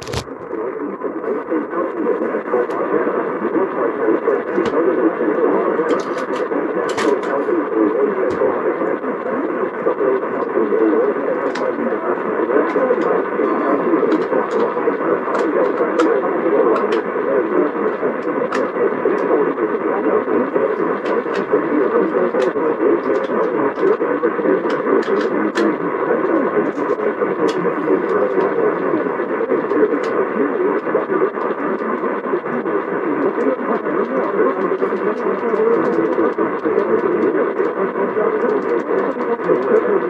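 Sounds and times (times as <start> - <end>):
radio static hiss: 0.0 - 40.0
sharp radio crackles: 0.0 - 40.0.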